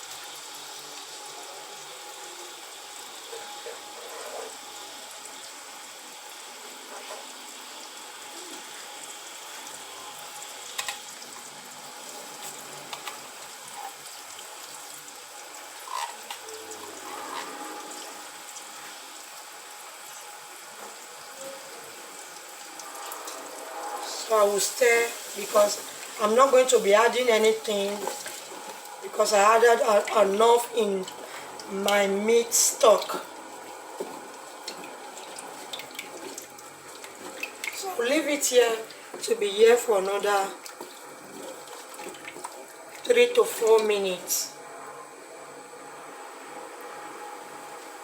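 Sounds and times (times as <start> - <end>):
onions sizzling in oil: 0.0 - 44.4.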